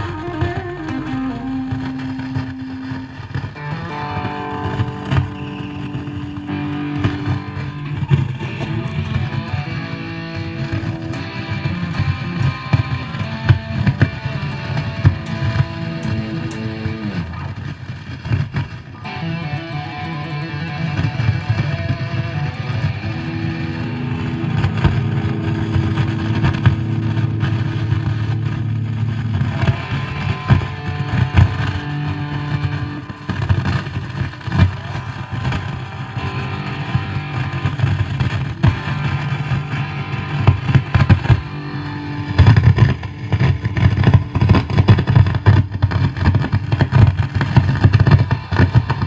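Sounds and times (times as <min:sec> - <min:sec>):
electric guitar notes and chords: 0:00.0 - 0:49.0.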